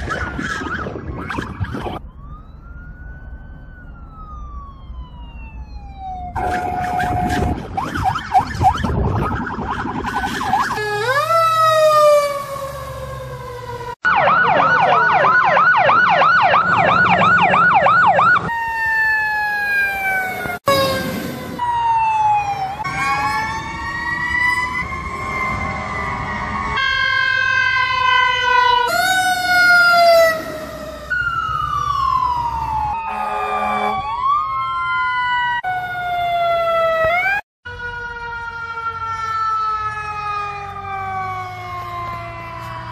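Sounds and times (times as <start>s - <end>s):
electronic sirens wailing: 0.0s - 42.9s
fast siren yelp: 0.0s - 42.9s.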